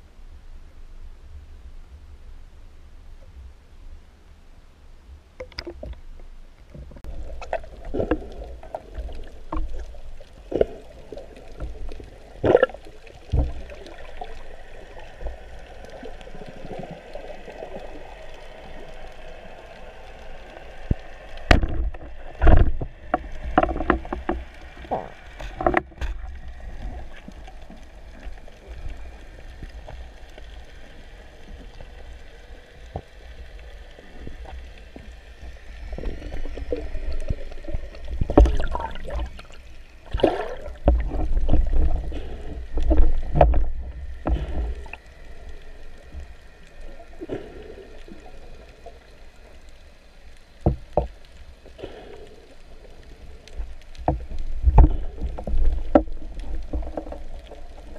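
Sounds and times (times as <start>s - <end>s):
water sloshing and gurgling: 5.2s - 57.9s.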